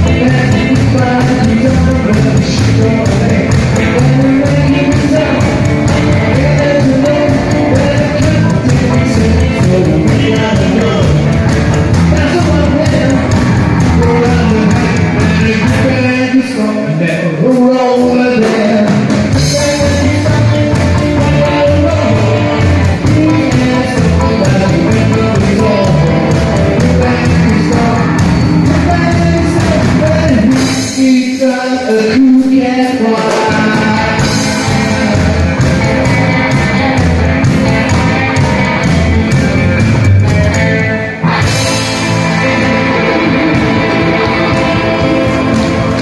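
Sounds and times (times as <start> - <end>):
upright double bass: 0.0 - 16.3, 19.2 - 30.7, 33.5 - 46.0
drums: 0.0 - 46.0
electric guitars: 0.0 - 46.0
person singing: 0.0 - 46.0.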